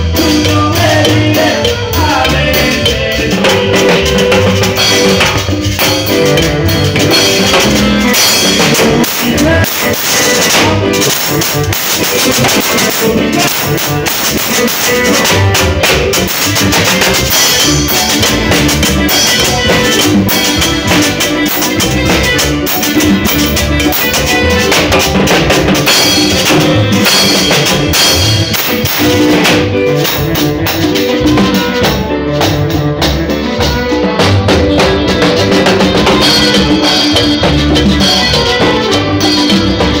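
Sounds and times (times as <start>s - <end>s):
drum kit and cymbals beat: 0.0s - 40.0s
live band playing a hymn: 0.0s - 40.0s.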